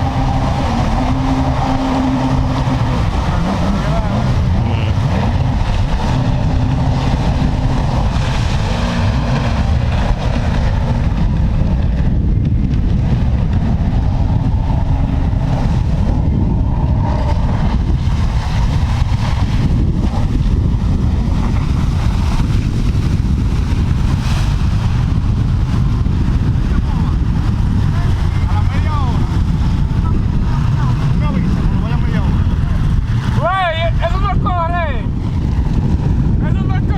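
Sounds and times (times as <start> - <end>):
jet ski engine running: 0.0 - 36.9
wind buffeting microphone: 0.0 - 36.9.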